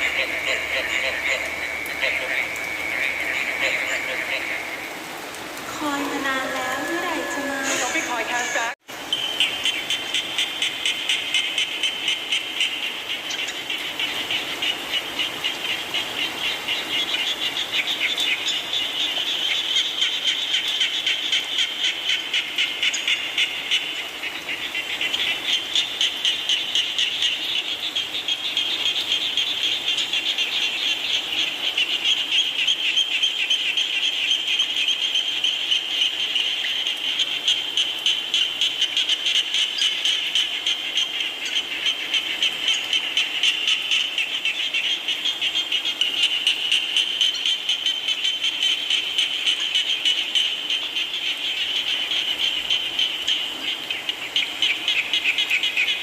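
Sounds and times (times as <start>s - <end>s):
frogs calling: 0.0s - 56.0s
rain falling: 0.0s - 56.0s.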